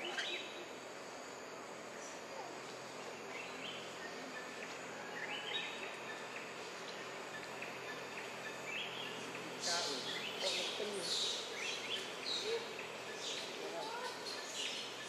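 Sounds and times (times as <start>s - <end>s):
steady woodland hiss: 0.0s - 15.0s.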